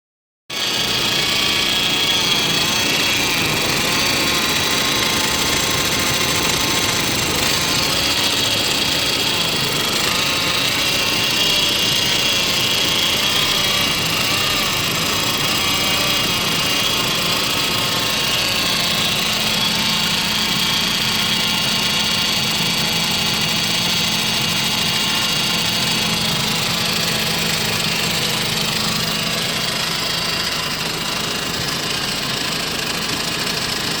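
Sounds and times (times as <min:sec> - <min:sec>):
car engine idling rough: 0:00.5 - 0:34.0.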